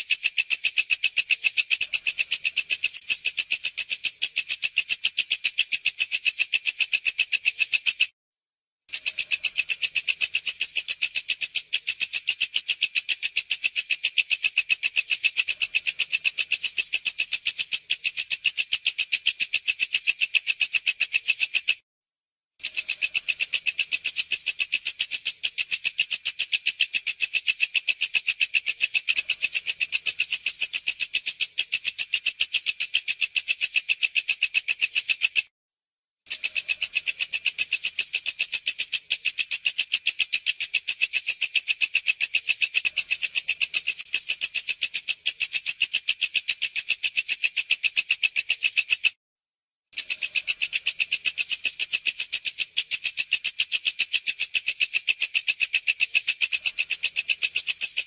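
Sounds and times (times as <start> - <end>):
bush cricket calling: 0.0 - 8.1, 8.9 - 21.8, 22.6 - 35.4, 36.3 - 49.1, 50.0 - 58.0.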